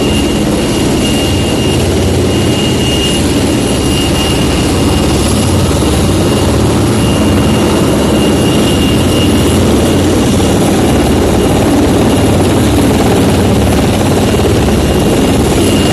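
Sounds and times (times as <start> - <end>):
helicopter rotor noise: 0.0 - 15.9.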